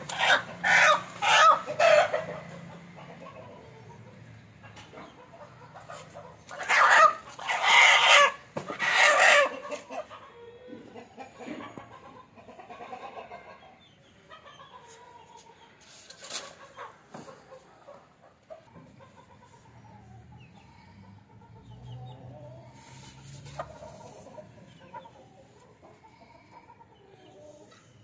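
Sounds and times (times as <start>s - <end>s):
hen clucking: 0.0s - 28.0s.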